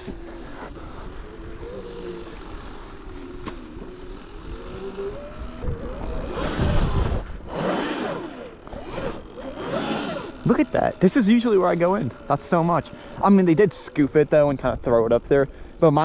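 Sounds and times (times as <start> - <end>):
electric motor whining: 0.0 - 14.4.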